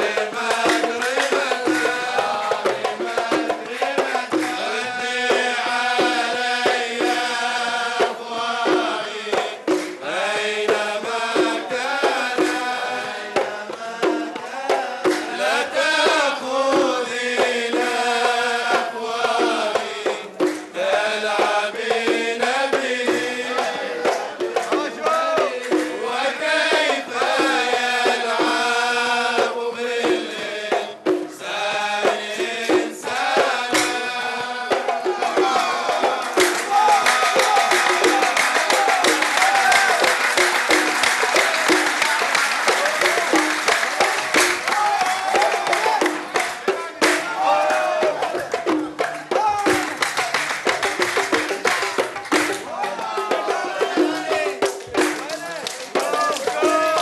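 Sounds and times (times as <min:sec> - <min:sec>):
hand drums beating: 0:00.0 - 0:57.0
men singing: 0:00.0 - 0:57.0
rhythmic hand clapping: 0:00.0 - 0:57.0.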